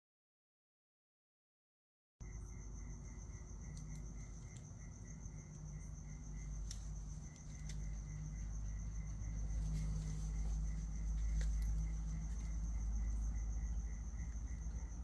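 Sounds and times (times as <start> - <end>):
insects chirping: 2.2 - 15.0.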